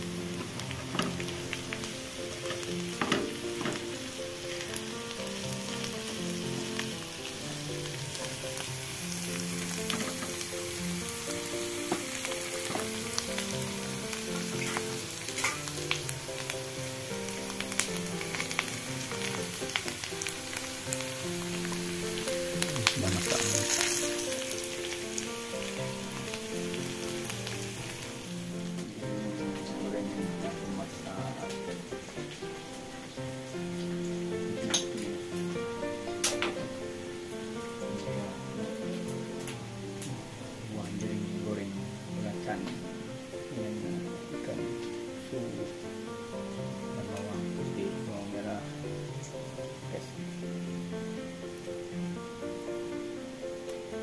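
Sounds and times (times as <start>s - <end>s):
beans sizzling in oil: 0.0s - 54.0s
soft background music: 0.0s - 54.0s.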